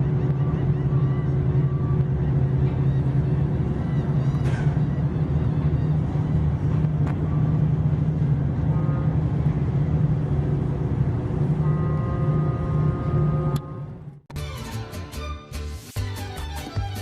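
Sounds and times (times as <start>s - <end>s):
faint steady tones: 0.0s - 14.2s
heavy engine machinery rumble: 0.0s - 14.2s.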